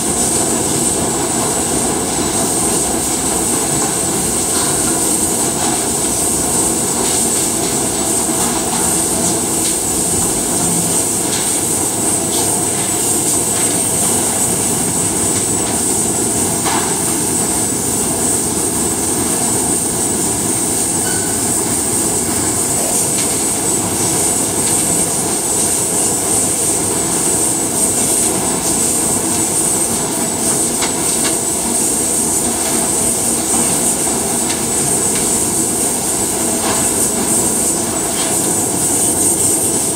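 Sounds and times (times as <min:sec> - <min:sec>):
conveyor and machinery running: 0:00.0 - 0:39.9.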